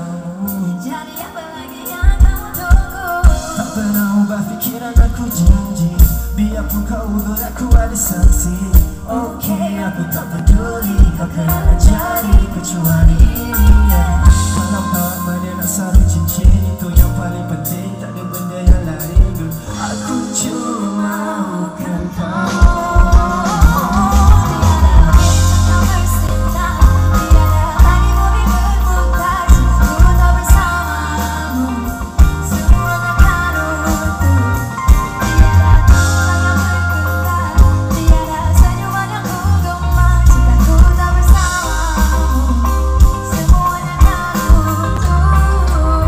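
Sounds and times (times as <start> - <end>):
live pop band: 0.0 - 46.0
people singing: 0.0 - 46.0.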